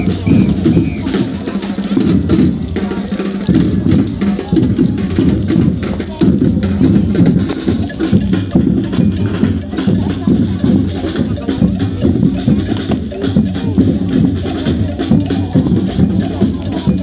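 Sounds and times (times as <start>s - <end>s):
music with drums and percussion: 0.0s - 17.0s
voices: 0.0s - 17.0s.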